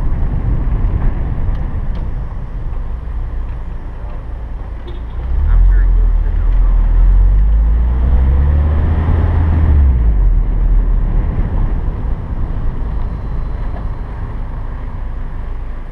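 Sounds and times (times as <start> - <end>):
wind buffeting microphone: 0.0 - 4.7, 6.8 - 15.6
car engine and road noise: 0.0 - 15.9.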